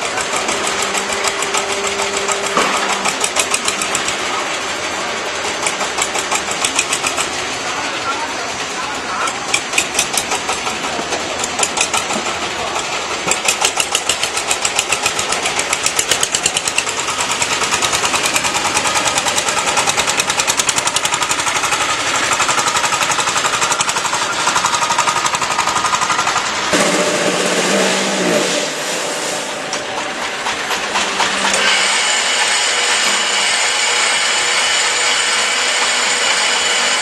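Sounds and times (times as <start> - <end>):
forklift engine clattering: 0.0 - 37.0.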